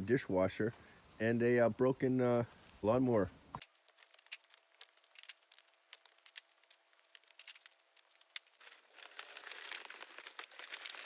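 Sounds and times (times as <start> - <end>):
rustling crinkling noise: 0.1 - 11.0.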